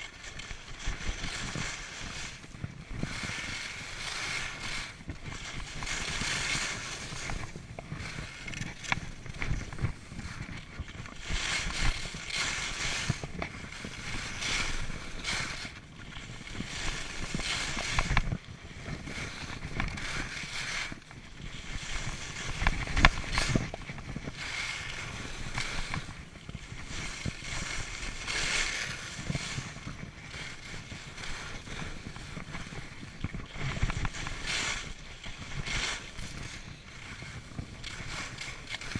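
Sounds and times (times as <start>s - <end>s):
skis scraping on snow: 0.0s - 38.9s
wind buffeting microphone: 0.0s - 38.9s.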